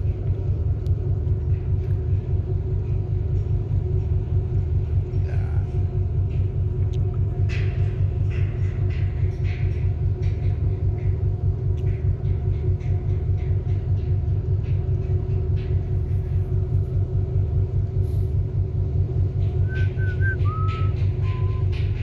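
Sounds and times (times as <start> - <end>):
boat engine droning: 0.0 - 22.0
low rumble of vessel: 0.0 - 22.0.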